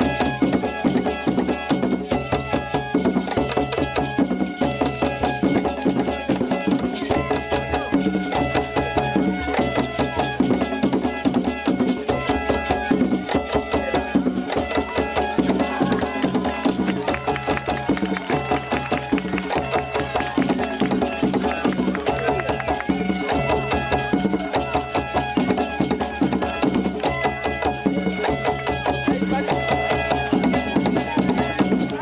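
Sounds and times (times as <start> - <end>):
upbeat music with percussion beat: 0.0 - 32.0.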